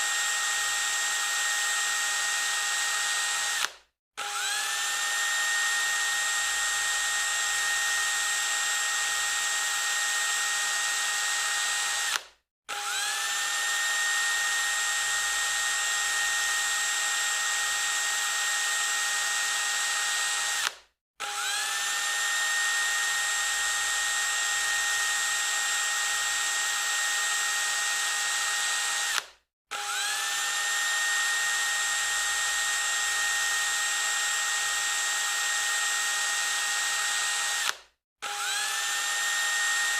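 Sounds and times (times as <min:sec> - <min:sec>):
power drill whining: 0:00.0 - 0:39.9.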